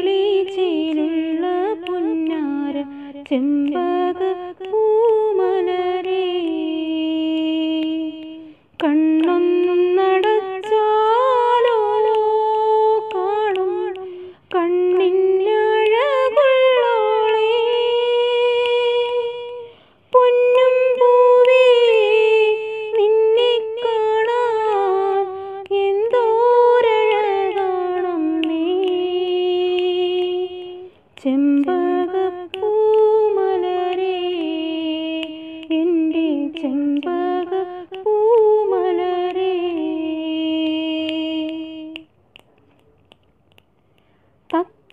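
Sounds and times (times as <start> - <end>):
woman singing unaccompanied: 0.0 - 44.9.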